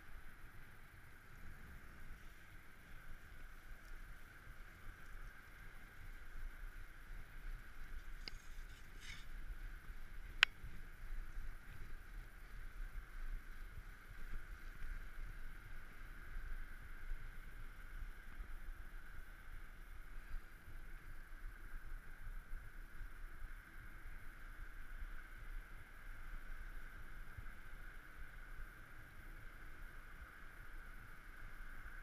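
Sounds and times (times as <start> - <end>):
muffled wind: 0.0 - 32.0.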